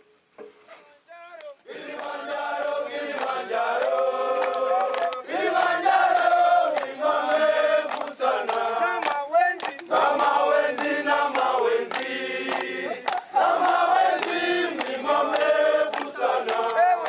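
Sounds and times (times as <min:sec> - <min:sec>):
choir singing a chant: 0:01.7 - 0:17.0.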